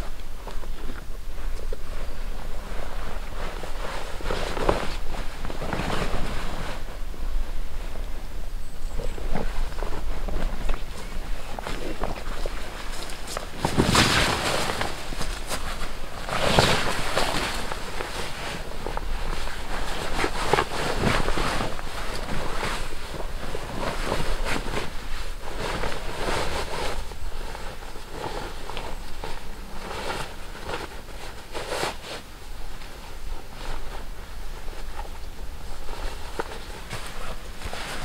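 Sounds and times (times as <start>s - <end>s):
heavy canvas rustling and swishing: 1.4s - 8.0s, 11.4s - 38.0s.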